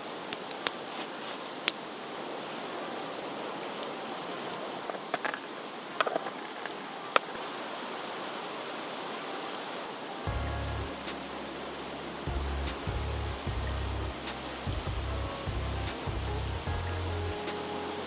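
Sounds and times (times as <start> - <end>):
campfire crackling and hissing: 0.0 - 18.0.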